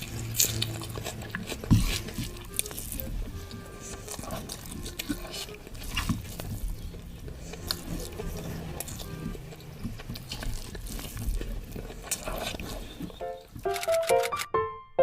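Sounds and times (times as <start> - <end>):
chewing: 0.0 - 13.9.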